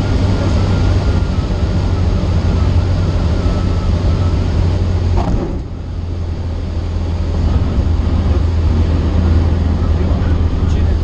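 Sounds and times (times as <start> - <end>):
airplane engine and propeller droning: 0.0 - 11.0.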